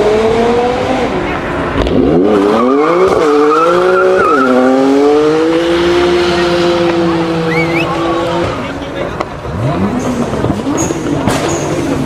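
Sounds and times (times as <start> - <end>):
car engine accelerating through gears: 0.0 - 12.0.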